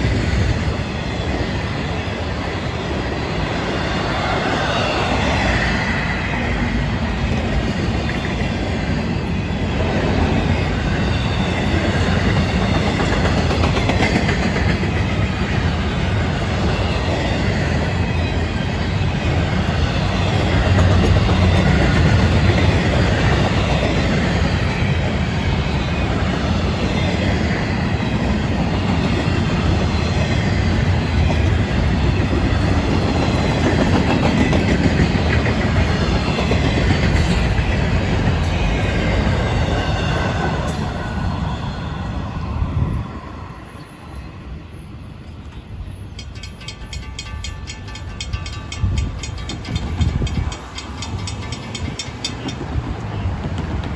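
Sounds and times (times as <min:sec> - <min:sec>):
rail joints clickety-clack: 0:00.0 - 0:53.9
train wheels rumbling on rail: 0:00.0 - 0:53.9.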